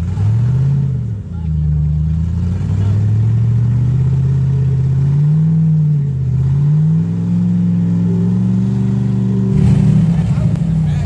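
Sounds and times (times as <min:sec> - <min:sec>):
buggy engine revving: 0:00.0 - 0:11.0.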